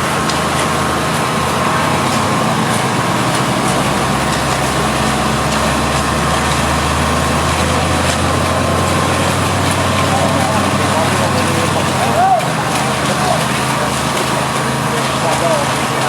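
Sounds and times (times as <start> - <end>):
heavy vehicle engine humming: 0.0 - 16.0.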